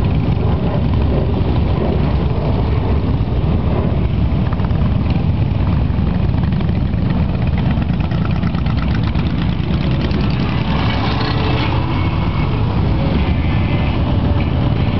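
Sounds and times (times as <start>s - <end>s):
motorcycle engines rumbling: 0.0s - 14.9s.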